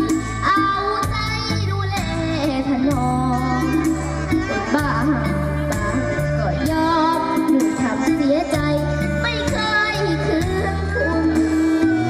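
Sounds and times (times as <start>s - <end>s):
amplified backing music: 0.0s - 12.0s
girl singing into microphone: 0.0s - 12.0s.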